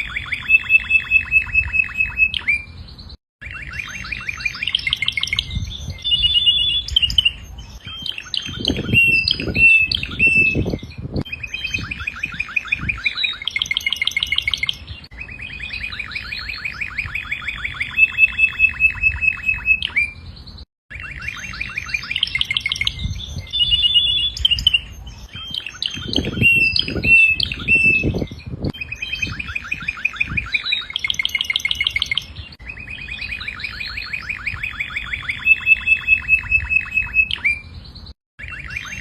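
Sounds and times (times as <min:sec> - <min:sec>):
canary singing trills: 0:00.0 - 0:39.0.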